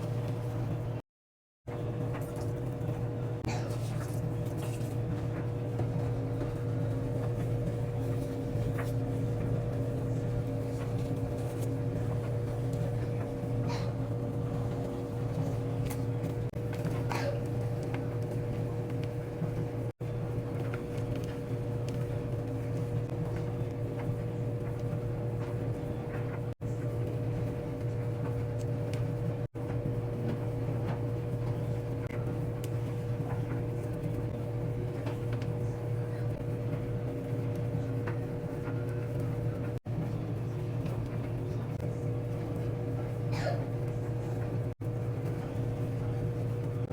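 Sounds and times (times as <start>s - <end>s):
machine hum: 1.7s - 46.9s.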